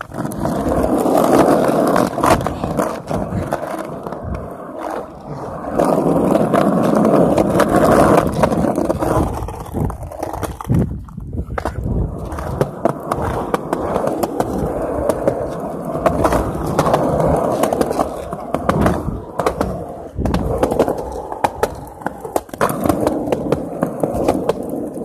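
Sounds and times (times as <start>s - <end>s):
hard wheels rolling over pavement: 0.0s - 25.0s.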